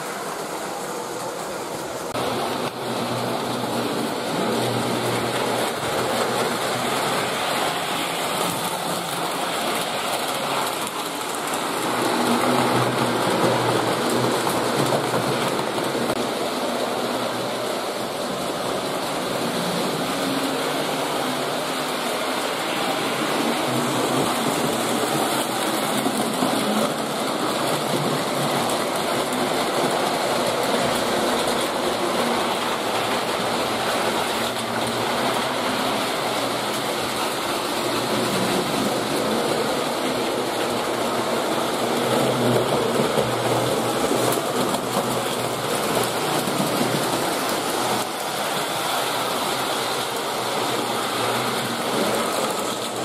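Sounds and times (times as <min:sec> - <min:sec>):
model train running on rails: 0:00.0 - 0:53.0.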